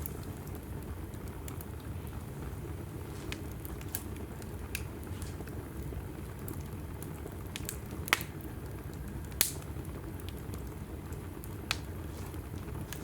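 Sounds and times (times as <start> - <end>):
fire popping: 0.0 - 13.0
logs burning in fireplace: 0.0 - 13.0.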